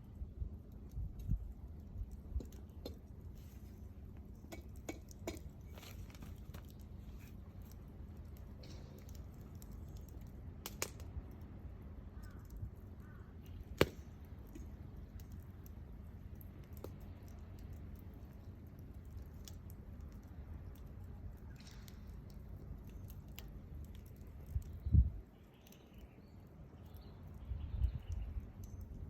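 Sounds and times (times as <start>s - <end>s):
wood bonfire crackling: 0.0s - 29.0s.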